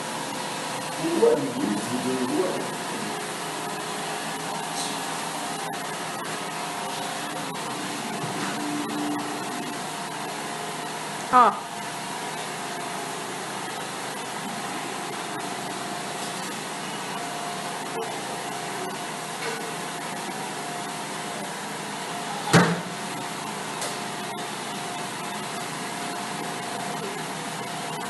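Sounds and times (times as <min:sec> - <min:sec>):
whirring machine: 0:00.0 - 0:28.0.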